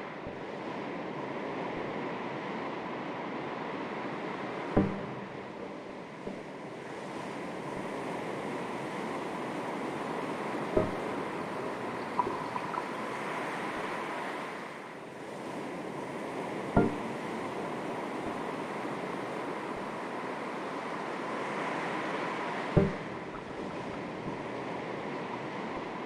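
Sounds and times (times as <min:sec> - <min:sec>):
sea waves lapping: 0:00.0 - 0:26.0.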